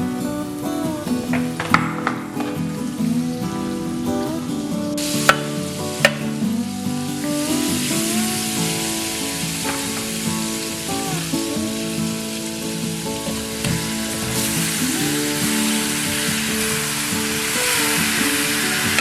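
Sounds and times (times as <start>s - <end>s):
food sizzling in hot oil: 0.5s - 19.0s.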